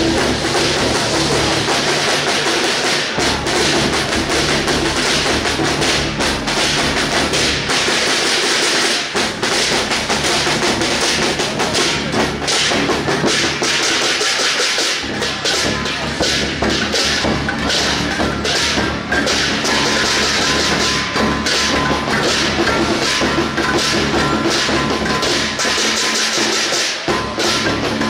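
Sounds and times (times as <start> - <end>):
barrel drum beating: 0.0 - 28.0
cymbals: 0.0 - 28.0.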